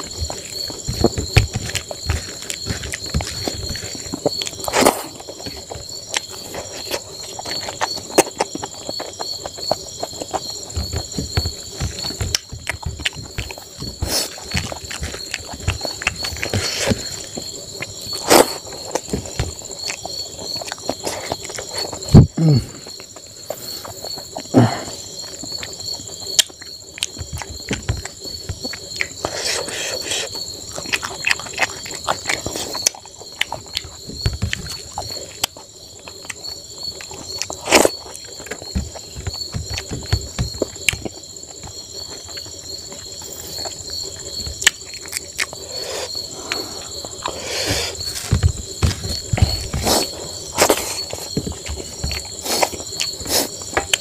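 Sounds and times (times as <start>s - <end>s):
crickets trilling: 0.0s - 54.0s
wet chewing and lip-smacking: 0.0s - 54.0s.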